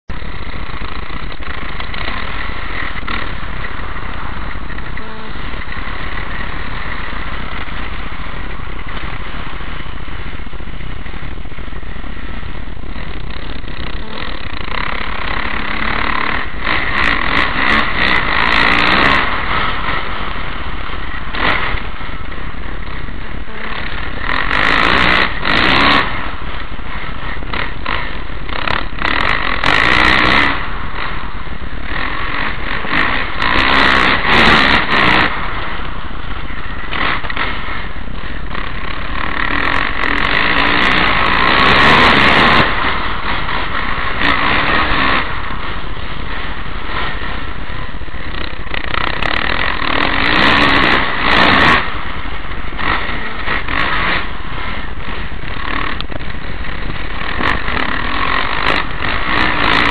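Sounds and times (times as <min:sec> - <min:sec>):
motocross engine running: 0:00.0 - 0:59.9.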